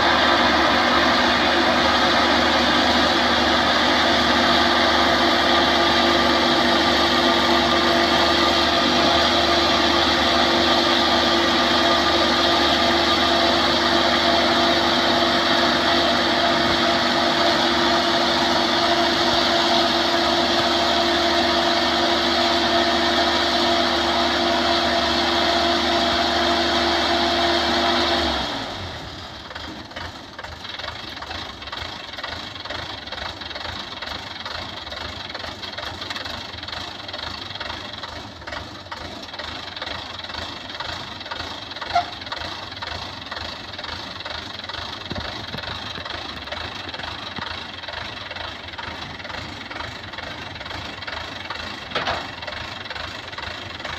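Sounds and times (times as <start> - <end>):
combine harvester engine: 0.0 - 53.9.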